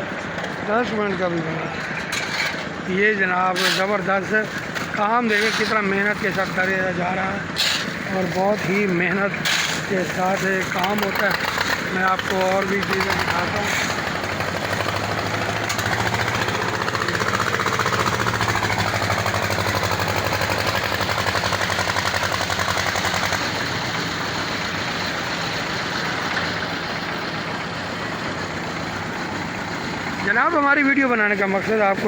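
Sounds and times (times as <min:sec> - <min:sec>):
concrete mixer engine pulsing: 0:00.0 - 0:32.0.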